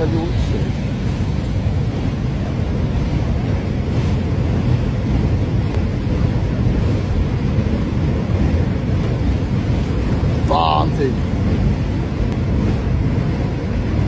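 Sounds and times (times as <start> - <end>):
mudflow rushing rumble: 0.0 - 14.0.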